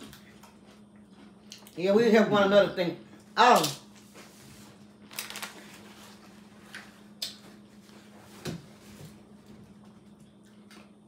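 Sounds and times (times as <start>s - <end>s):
quiet eating: 0.0s - 8.0s, 9.7s - 11.0s
faint steady hum: 0.0s - 11.0s.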